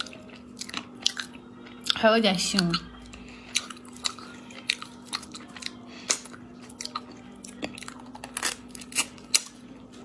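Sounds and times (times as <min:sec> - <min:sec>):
chewing snail meat: 0:00.0 - 0:10.0.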